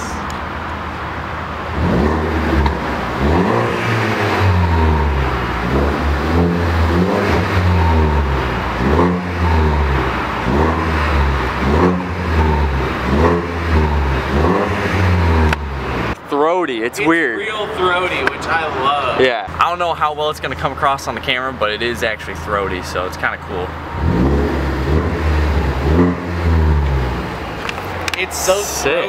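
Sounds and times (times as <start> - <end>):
car engine revving: 0.0 - 16.2, 17.5 - 29.0.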